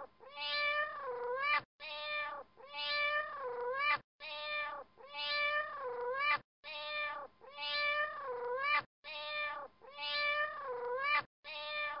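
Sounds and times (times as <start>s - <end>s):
cat meowing: 0.3s - 12.0s.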